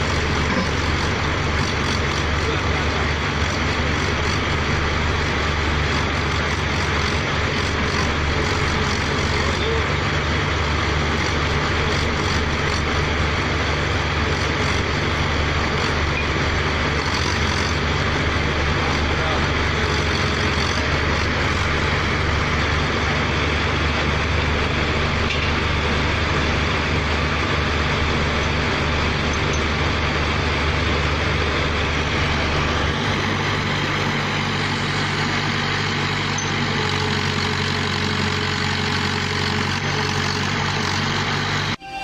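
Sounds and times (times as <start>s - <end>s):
drilling rig engine hum: 0.0s - 42.0s.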